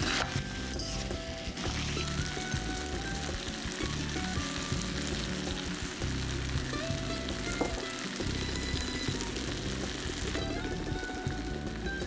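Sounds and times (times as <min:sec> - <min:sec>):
background music: 0:00.0 - 0:12.0
meat sizzling in a pan: 0:00.0 - 0:12.0.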